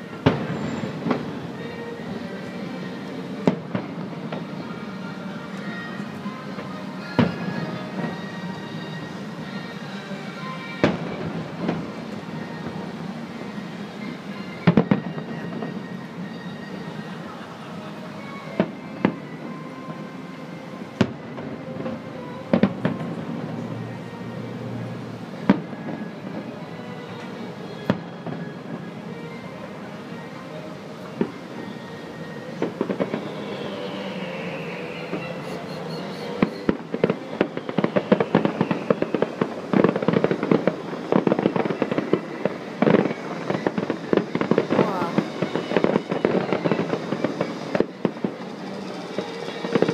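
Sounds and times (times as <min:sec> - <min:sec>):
distant fireworks bangs: 0:00.0 - 0:05.0, 0:05.7 - 0:09.8, 0:10.4 - 0:17.0, 0:21.0 - 0:24.6, 0:25.4 - 0:29.4, 0:31.1 - 0:49.9
steady background noise: 0:00.0 - 0:49.9.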